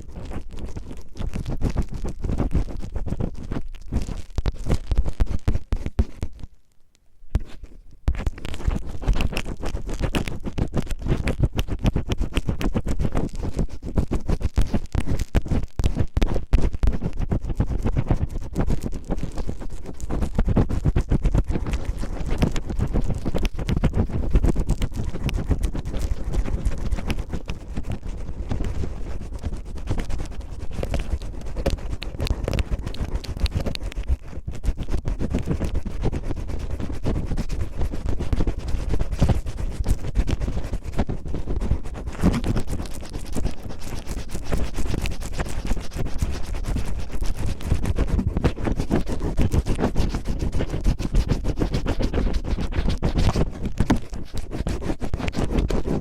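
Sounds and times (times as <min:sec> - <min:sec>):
cellophane crackling on microphone: 0:00.0 - 0:06.7, 0:07.4 - 0:56.0.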